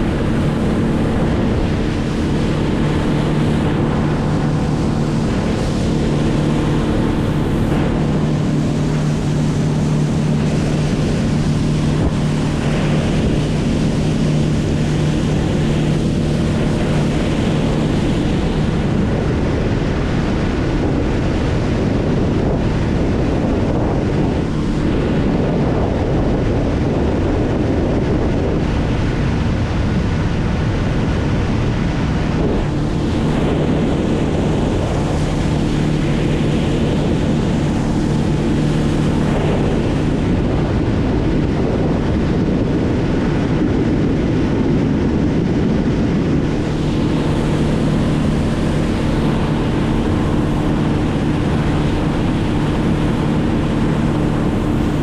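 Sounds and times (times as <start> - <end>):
engine humming: 0.0 - 22.2, 31.2 - 55.0
wind buffeting microphone: 0.0 - 55.0.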